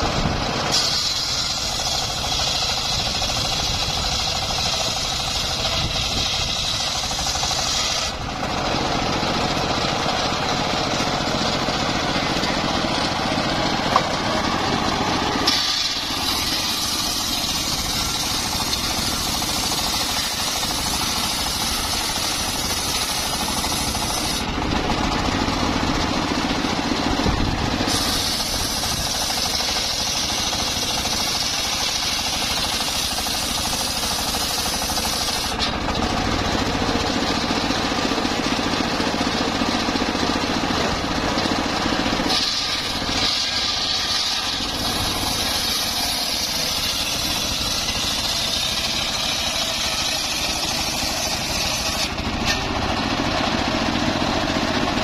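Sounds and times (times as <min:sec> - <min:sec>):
saw blade cutting log hiss: 0:00.0 - 0:08.2, 0:09.2 - 0:24.5, 0:27.7 - 0:35.8, 0:41.5 - 0:54.9
circular sawmill running: 0:00.0 - 0:55.0.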